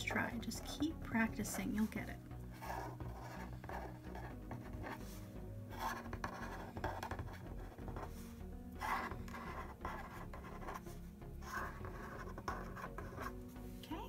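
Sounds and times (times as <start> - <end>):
marker scratching on paper: 0.0 - 13.8
background music: 0.0 - 14.0.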